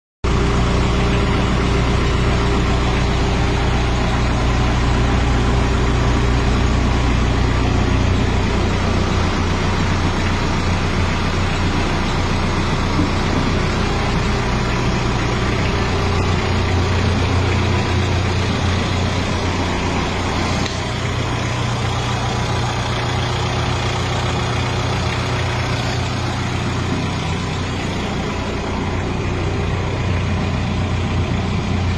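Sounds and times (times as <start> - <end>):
truck engine idling: 0.2 - 31.9.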